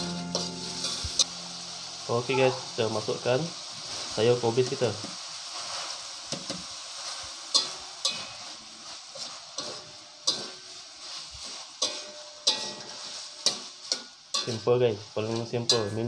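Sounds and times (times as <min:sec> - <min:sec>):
metal spatula scraping a wok: 0:00.0 - 0:03.0, 0:03.6 - 0:16.0
cabbage sizzling in a wok: 0:00.0 - 0:16.0.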